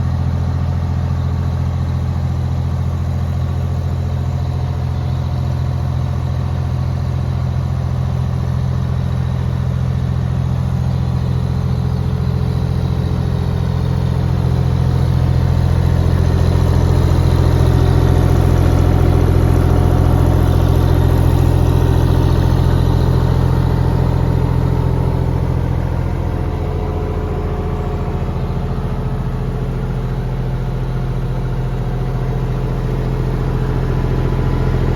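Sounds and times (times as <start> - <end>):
diesel engine running at low revs: 0.0 - 34.9.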